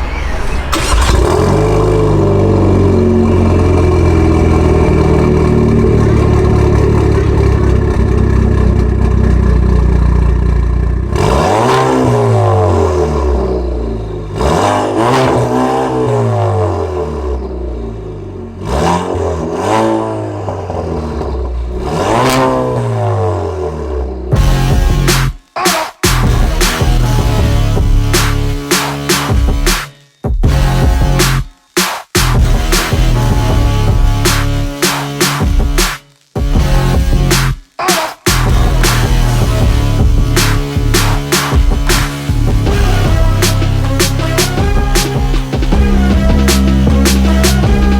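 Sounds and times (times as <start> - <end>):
car engine revving: 0.0 - 25.4, 26.1 - 29.8, 30.5 - 31.5, 32.2 - 37.6, 38.2 - 47.9.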